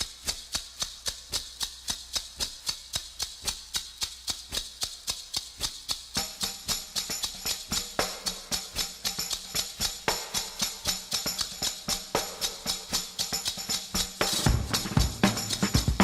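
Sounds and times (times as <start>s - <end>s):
light percussion rhythm: 0.0s - 16.0s.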